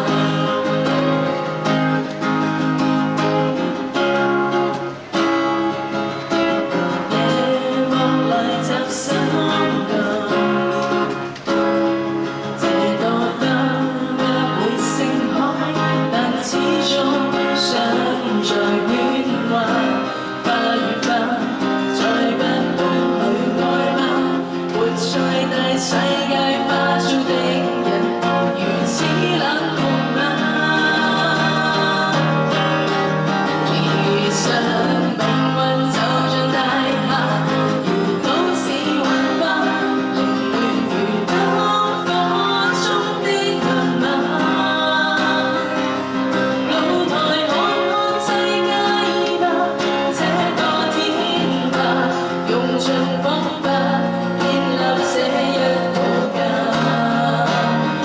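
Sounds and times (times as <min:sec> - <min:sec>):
guitar accompaniment: 0:00.0 - 0:58.0
person singing: 0:00.0 - 0:58.0.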